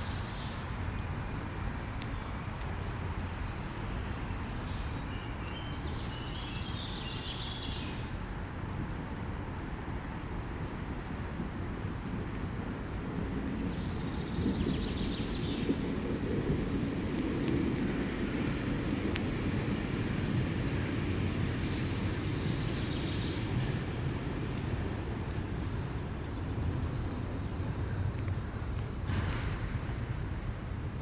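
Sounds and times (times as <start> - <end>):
city traffic rumble: 0.0 - 31.0.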